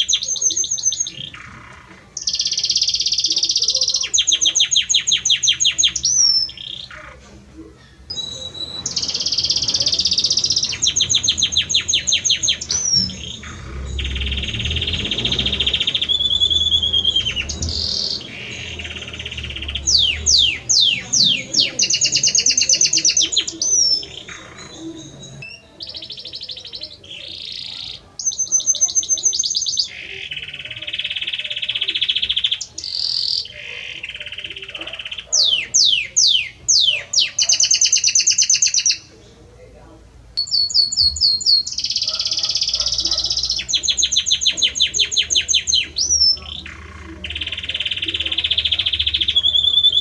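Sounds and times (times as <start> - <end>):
canary singing trills: 0.0 - 50.0.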